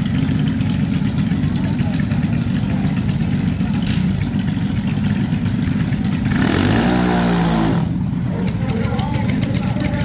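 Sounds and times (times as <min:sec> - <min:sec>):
racing engine idling and revving: 0:00.0 - 0:10.0.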